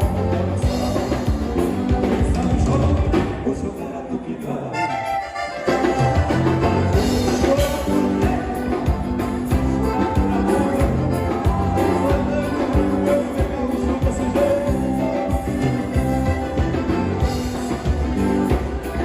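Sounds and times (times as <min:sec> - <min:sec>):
instrumental band music: 0:00.0 - 0:19.0.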